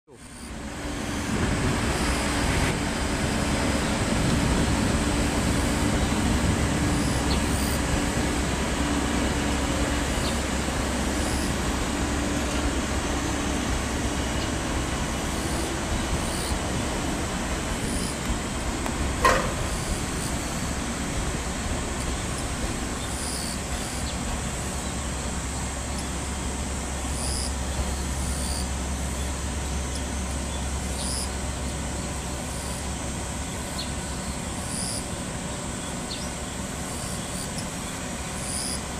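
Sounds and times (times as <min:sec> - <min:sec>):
electric train running: 0:00.1 - 0:38.9.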